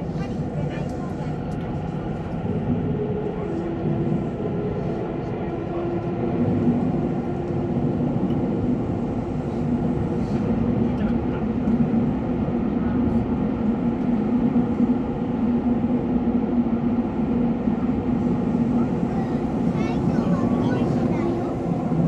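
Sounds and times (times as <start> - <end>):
subway train rumbling in tunnel: 0.0 - 22.0.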